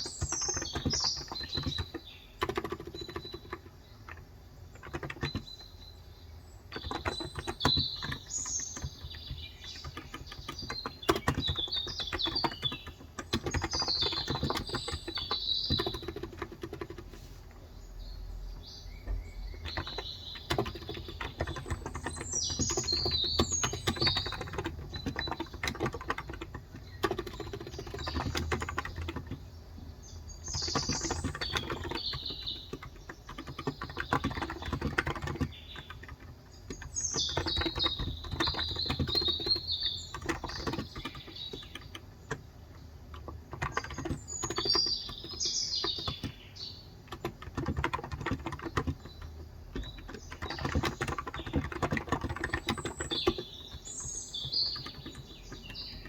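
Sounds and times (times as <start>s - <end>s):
keyboard typing: 0.0s - 5.9s, 6.7s - 17.6s, 18.4s - 56.0s
small birds chirping: 0.0s - 56.0s.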